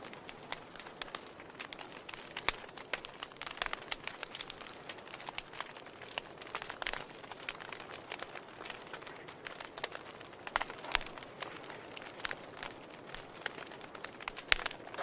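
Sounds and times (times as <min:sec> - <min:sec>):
fire pops: 0:00.0 - 0:15.0
soft fire hiss: 0:00.0 - 0:15.0
wood fire crackling: 0:00.0 - 0:15.0.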